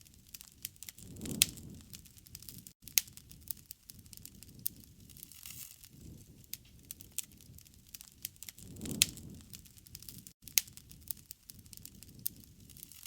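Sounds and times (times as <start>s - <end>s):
low rumble of flame: 0.0s - 13.0s
wood fire crackling and popping: 0.0s - 13.0s.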